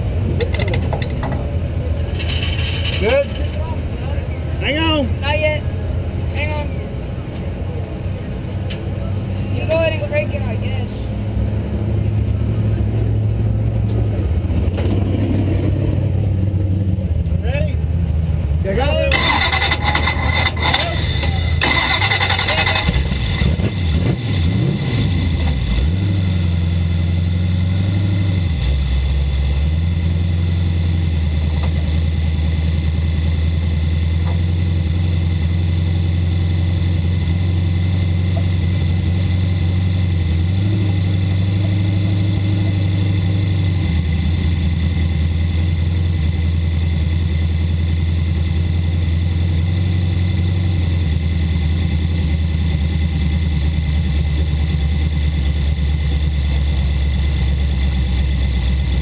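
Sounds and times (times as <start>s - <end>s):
race car engine idling: 0.0s - 15.0s, 15.8s - 59.0s.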